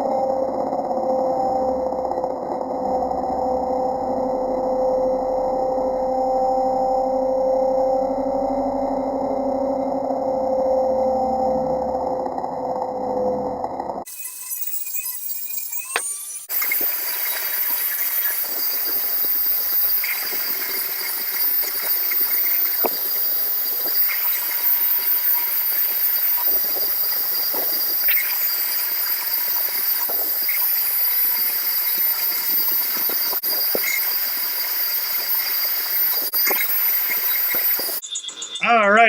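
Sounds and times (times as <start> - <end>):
rotary tool high whine: 0.0 - 38.0.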